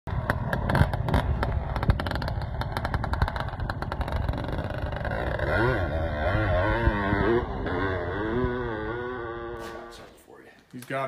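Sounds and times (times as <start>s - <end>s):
two-stroke dirt bike engine popping: 0.1s - 10.0s.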